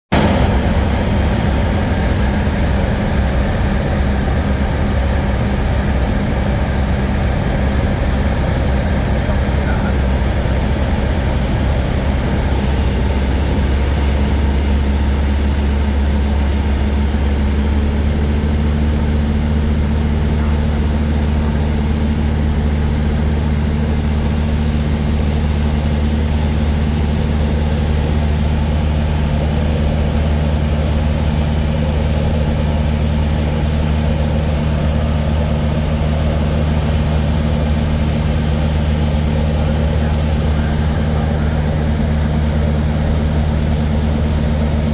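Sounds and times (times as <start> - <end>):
propeller plane engine droning: 0.1 - 44.9.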